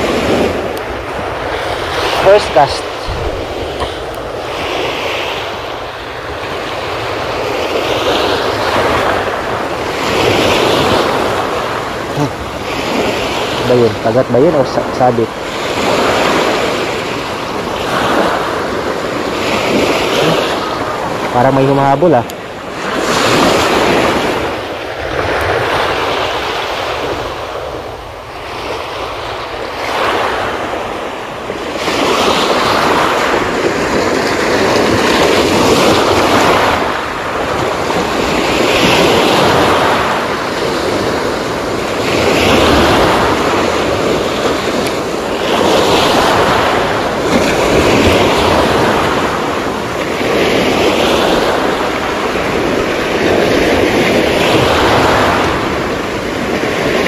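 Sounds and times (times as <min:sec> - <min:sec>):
waves breaking on pebble shore: 0:00.0 - 0:57.0.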